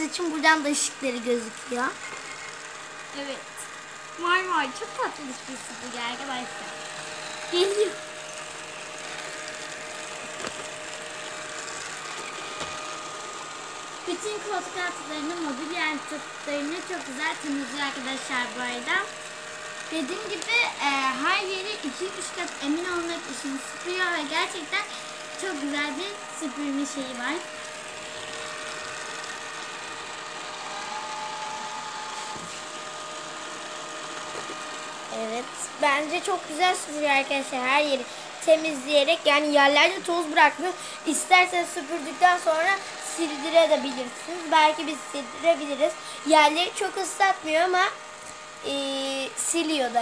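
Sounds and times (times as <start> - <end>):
robot vacuum motor hum and whine: 0.0 - 50.0.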